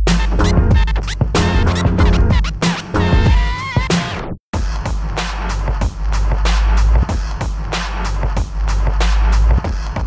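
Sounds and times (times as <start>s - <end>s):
hip-hop backing music: 0.0s - 10.0s.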